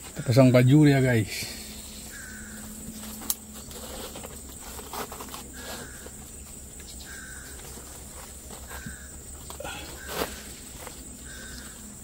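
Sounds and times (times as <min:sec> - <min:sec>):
high insect drone: 0:00.0 - 0:12.0
mesh bag rustling: 0:01.8 - 0:11.9.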